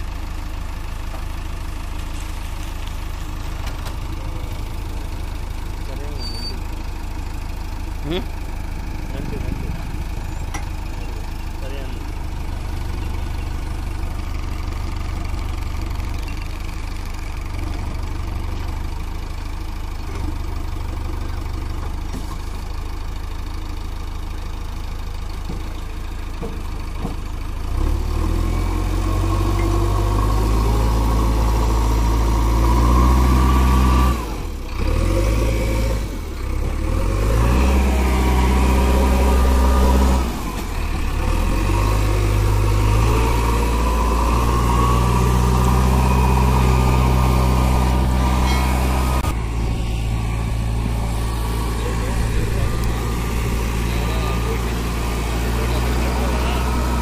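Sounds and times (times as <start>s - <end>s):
backhoe diesel engine idling and revving: 0.0s - 57.0s.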